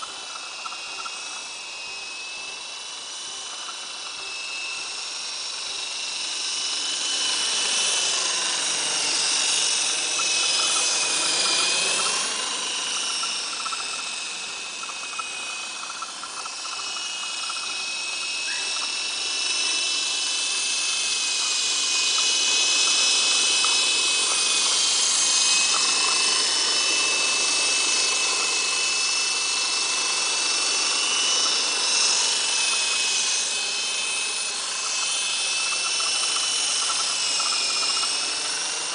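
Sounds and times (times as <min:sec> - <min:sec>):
toy helicopter rotors whining: 0:00.0 - 0:38.9.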